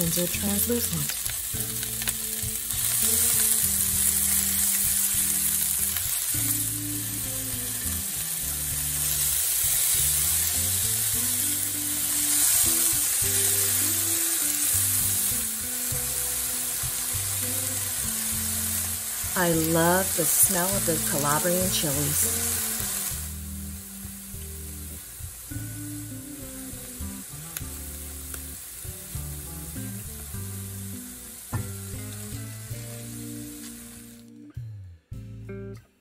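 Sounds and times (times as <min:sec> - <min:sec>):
vegetables sizzling in oil: 0:00.0 - 0:34.4
soft background music: 0:00.0 - 0:36.0.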